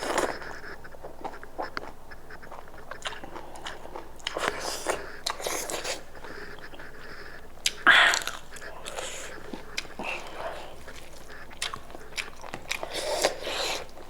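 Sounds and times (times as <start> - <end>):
chewing and biting meat: 0.0 - 14.0.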